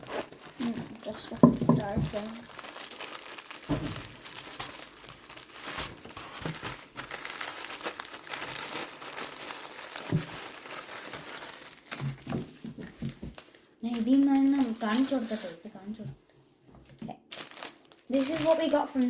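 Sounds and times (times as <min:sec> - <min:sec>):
packaging crinkling and tearing: 0:00.0 - 0:15.5, 0:16.9 - 0:19.0.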